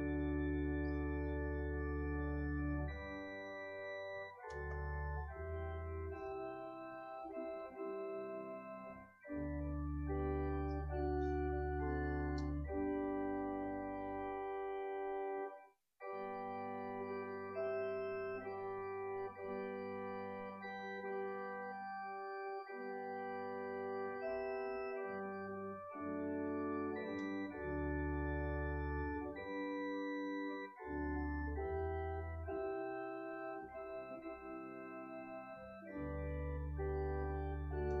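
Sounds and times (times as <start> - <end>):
organ playing slow chords: 0.0 - 38.0.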